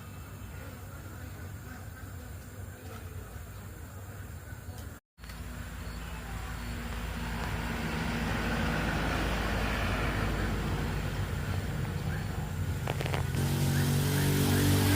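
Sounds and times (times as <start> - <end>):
low engine-like rumble: 0.0 - 14.9.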